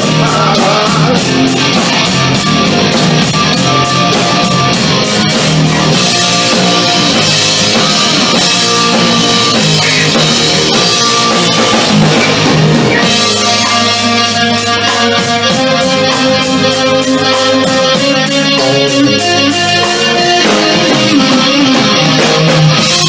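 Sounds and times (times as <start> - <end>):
distorted electric guitars: 0.0 - 23.0
drum kit: 0.0 - 23.0
keyboard: 0.0 - 23.0.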